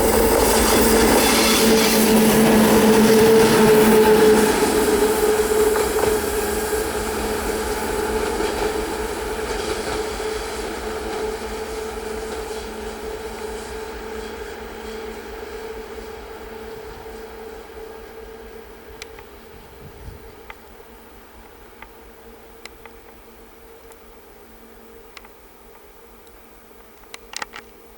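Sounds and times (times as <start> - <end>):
diesel locomotive engine hum: 0.0 - 27.9
wheels rumbling on rails: 0.0 - 27.9.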